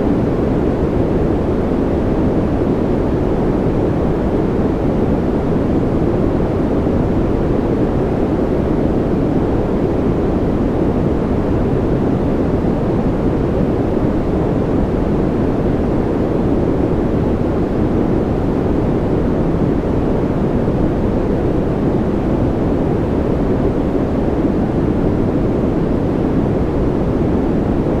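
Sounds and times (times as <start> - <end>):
deep muffled white noise: 0.0 - 28.0.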